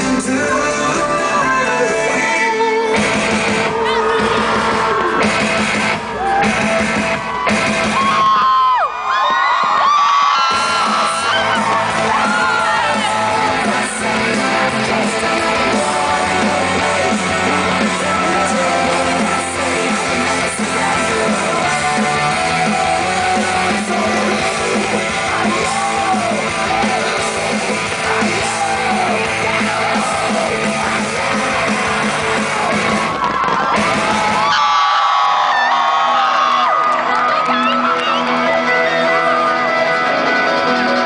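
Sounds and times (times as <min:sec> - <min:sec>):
crowd yelling: 0:00.0 - 0:41.0
rock pop music with singing: 0:00.0 - 0:41.0.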